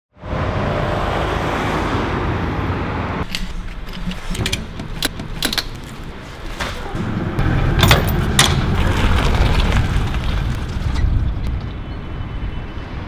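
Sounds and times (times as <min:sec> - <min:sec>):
road traffic: 0:00.1 - 0:13.0.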